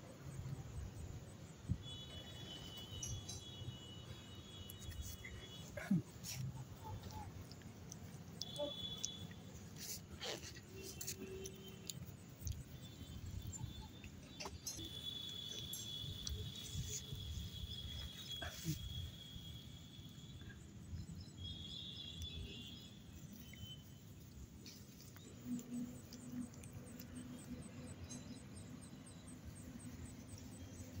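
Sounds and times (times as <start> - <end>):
insects trilling: 0.1 - 31.0.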